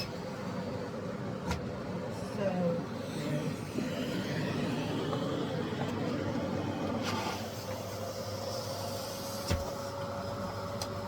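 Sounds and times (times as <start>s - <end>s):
thin steady whine: 0.0s - 11.0s
vacuum cleaner running: 0.0s - 11.0s.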